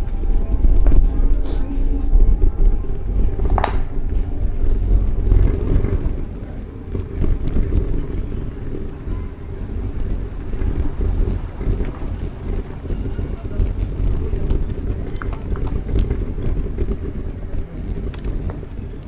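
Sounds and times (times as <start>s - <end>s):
outdoor ambience: 0.0s - 19.0s
wind buffeting microphone: 0.0s - 19.0s.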